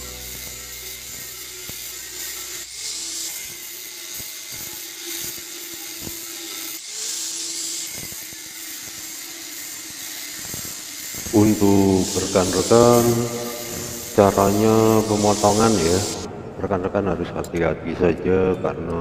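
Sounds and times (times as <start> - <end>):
angle grinder cutting metal: 0.0 - 16.3.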